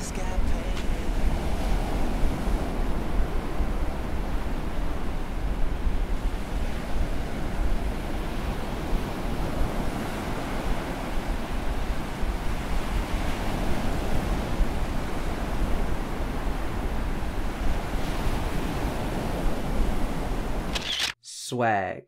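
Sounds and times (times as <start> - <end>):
ocean surf washing onto beach: 0.0 - 20.7
wind buffeting microphone: 0.5 - 20.7.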